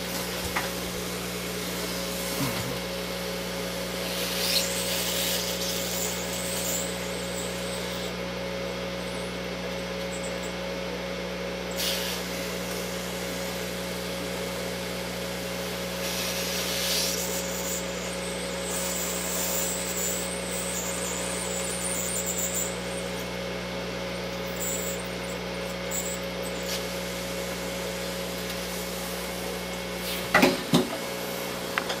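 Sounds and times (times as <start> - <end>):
hot air blower rushing: 0.0 - 8.6, 11.6 - 23.4, 24.6 - 32.0
constant hum: 0.0 - 32.0.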